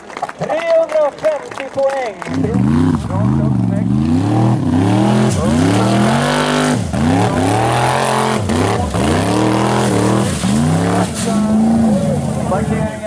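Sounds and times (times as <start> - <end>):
buggy engine revving: 2.2 - 13.0.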